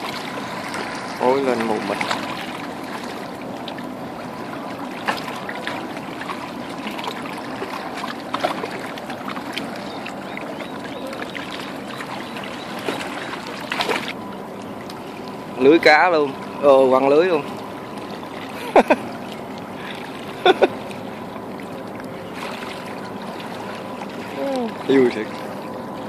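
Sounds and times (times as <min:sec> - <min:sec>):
river water lapping on rocks: 0:00.0 - 0:16.6, 0:17.2 - 0:26.0.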